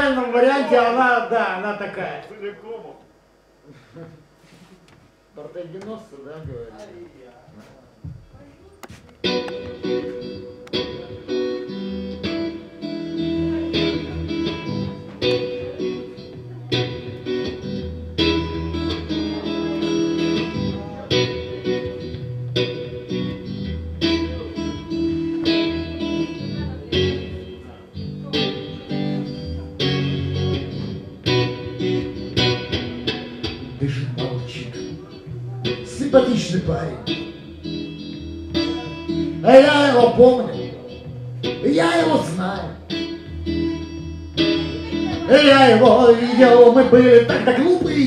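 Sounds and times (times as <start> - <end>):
electric guitar strumming chords: 7.9 - 48.0.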